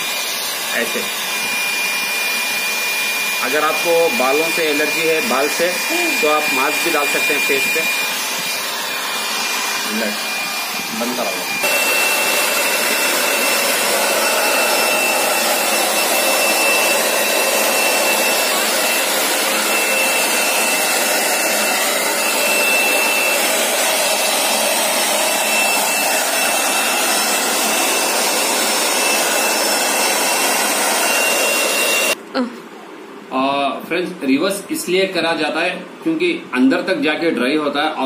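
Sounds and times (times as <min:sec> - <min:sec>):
hair dryer running: 0:00.0 - 0:32.2.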